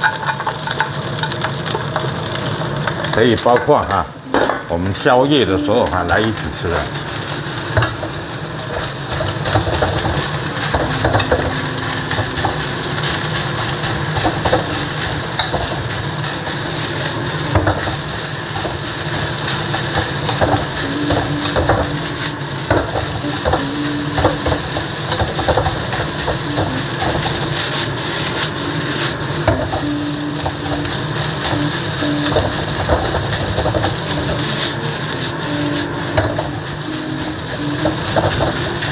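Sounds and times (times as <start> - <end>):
rice sizzling in oil: 0.0 - 4.1, 4.8 - 38.9.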